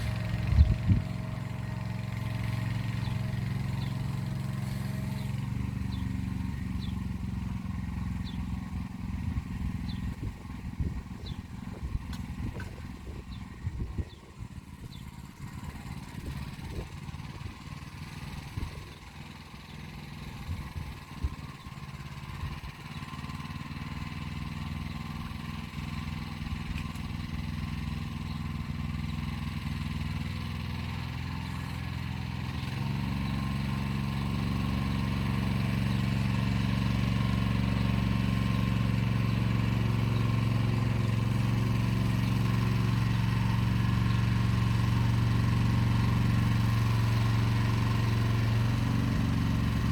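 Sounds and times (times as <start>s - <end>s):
walk-behind tractor engine running: 0.0s - 49.9s.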